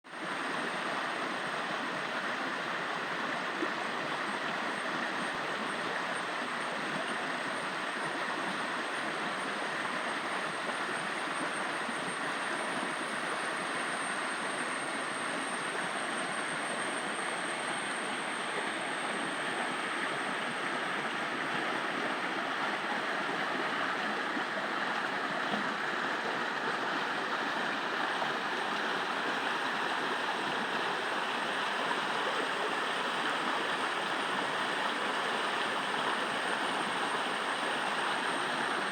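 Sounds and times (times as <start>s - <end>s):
stream water rushing: 0.2s - 38.9s.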